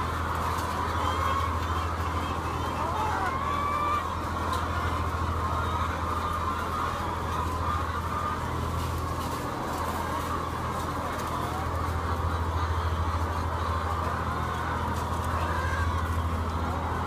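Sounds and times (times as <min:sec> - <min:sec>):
hens clucking: 0:00.0 - 0:17.0
low machinery hum: 0:00.0 - 0:17.0.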